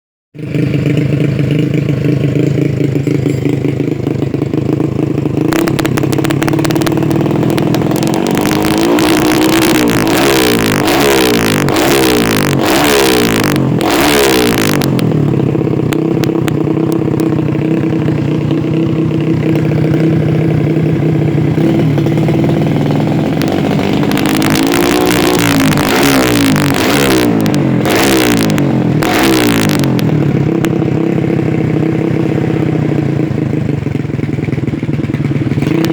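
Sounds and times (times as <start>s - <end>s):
motorcycle idling and revving: 0.3s - 35.9s.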